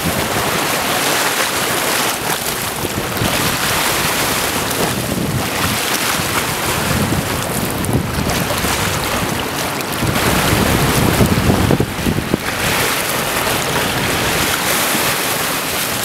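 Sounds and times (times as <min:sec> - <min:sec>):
floodwater rushing on river: 0:00.0 - 0:16.0
wind buffeting microphone: 0:00.0 - 0:16.0.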